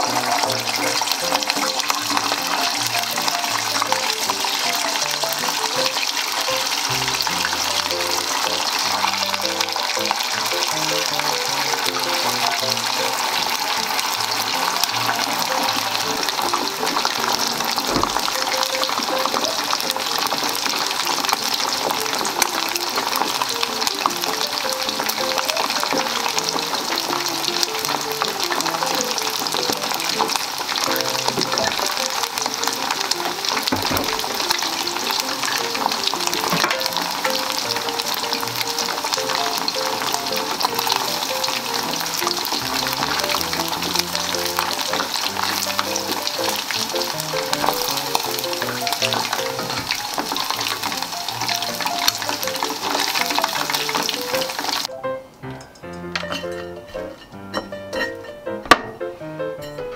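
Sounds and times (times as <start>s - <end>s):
oil sizzling and crackling: 0.0s - 59.0s
soft background music: 0.0s - 59.9s.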